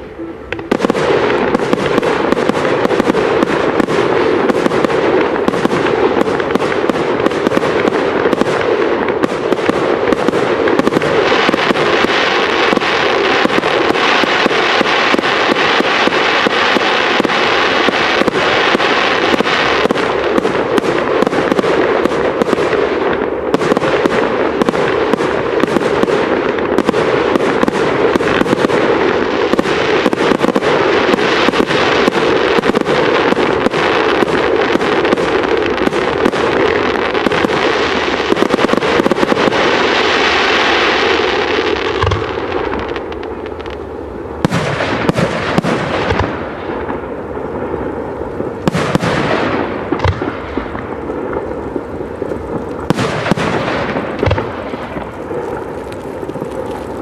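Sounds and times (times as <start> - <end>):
dense high crackle: 0.0 - 57.0.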